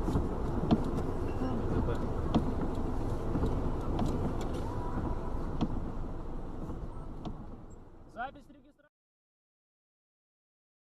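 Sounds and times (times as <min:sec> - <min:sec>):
car road and engine rumble: 0:00.0 - 0:08.9.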